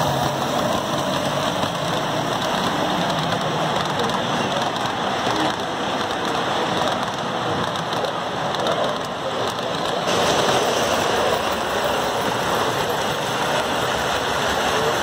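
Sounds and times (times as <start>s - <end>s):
model trains rumbling on track: 0.0s - 15.0s.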